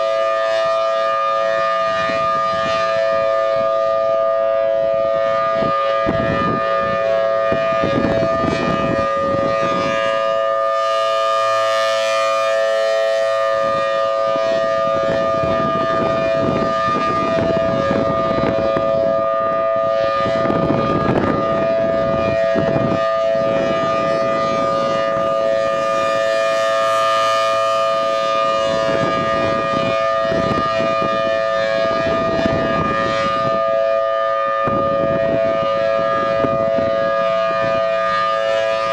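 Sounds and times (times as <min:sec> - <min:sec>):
tornado siren steady tone: 0:00.0 - 0:38.9.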